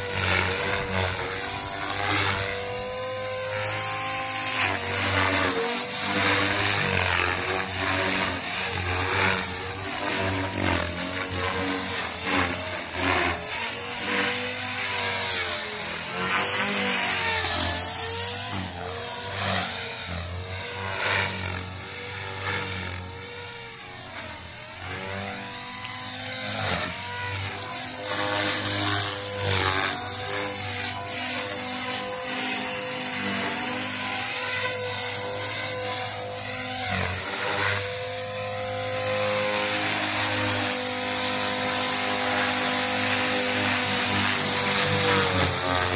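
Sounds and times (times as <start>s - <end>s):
high motor whine: 0.0s - 45.9s
rc helicopter rotor buzz: 0.0s - 45.9s.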